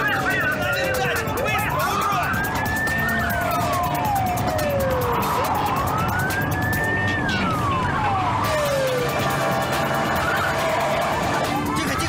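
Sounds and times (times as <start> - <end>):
car engine and road noise: 0.0 - 12.0
police siren wailing: 0.0 - 12.0.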